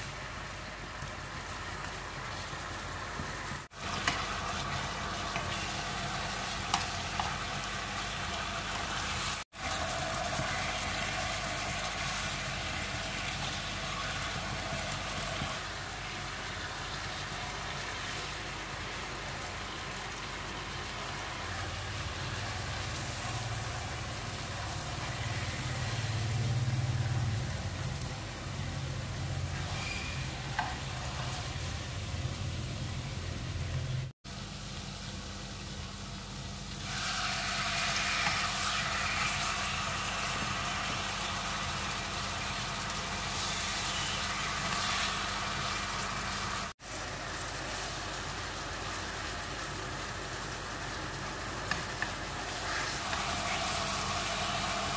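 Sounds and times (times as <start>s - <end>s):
sauce sizzling in frying pan: 0.0s - 54.9s.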